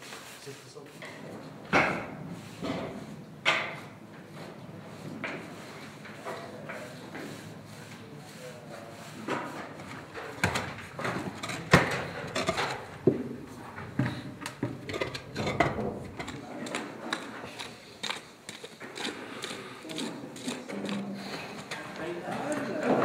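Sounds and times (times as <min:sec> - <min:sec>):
tool scraping: 0:01.9 - 0:23.0.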